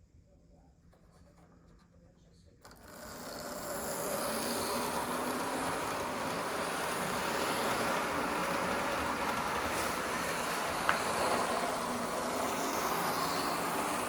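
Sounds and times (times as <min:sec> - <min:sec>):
model train motor whirring: 0:02.6 - 0:14.0
model wheels rattling on rails: 0:02.6 - 0:14.0.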